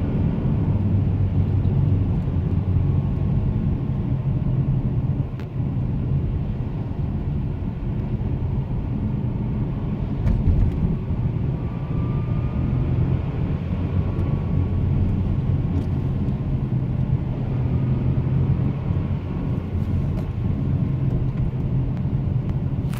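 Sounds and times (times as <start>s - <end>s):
car engine and road rumble: 0.0s - 22.9s
faint high engine whine: 0.0s - 22.9s.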